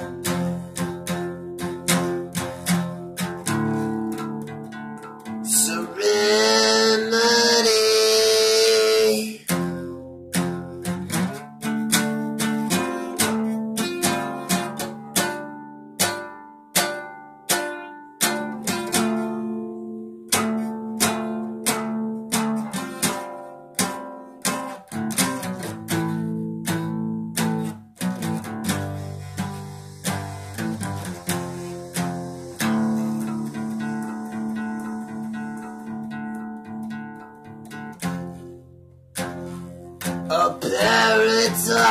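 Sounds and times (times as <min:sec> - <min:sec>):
solo guitar playing: 0:00.0 - 0:41.9.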